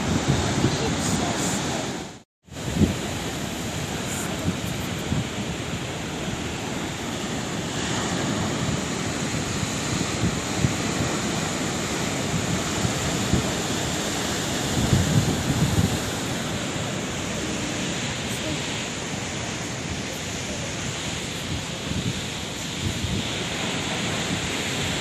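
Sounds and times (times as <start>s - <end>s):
ocean surf breaking waves: 0.0s - 25.0s.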